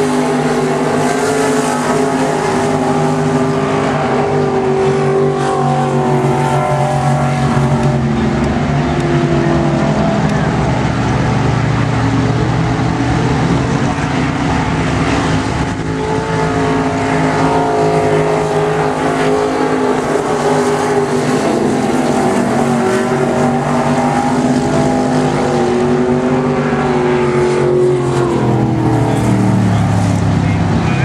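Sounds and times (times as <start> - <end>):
race car engines running hard: 0.0 - 31.0.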